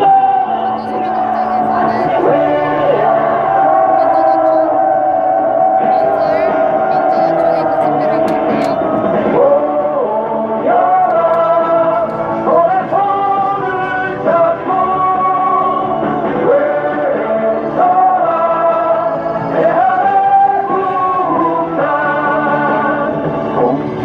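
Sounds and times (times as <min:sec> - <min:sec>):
song with long sung notes: 0:00.0 - 0:24.0.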